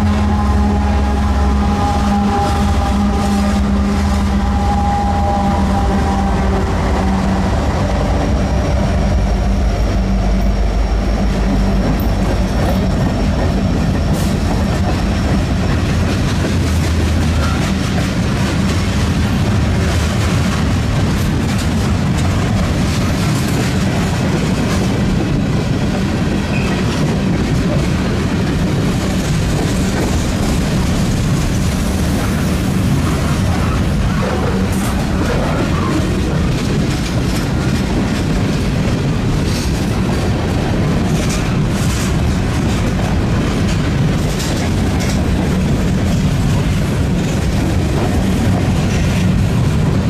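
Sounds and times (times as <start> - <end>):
locomotive engine drone: 0.0 - 50.0
railcars rumbling over rails: 0.0 - 50.0.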